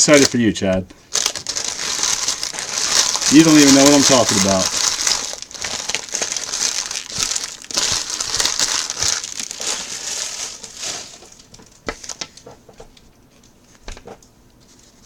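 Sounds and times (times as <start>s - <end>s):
wrappers crinkling: 0.0s - 12.5s.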